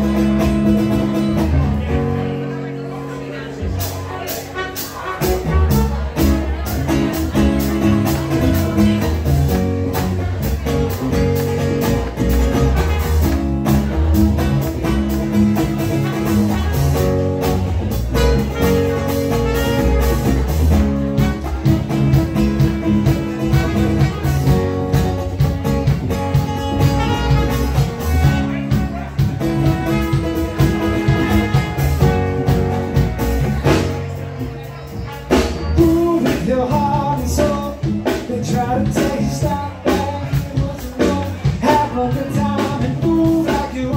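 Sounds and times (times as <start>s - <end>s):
electric guitar: 0.0s - 43.9s
strummed acoustic guitar: 0.0s - 43.9s.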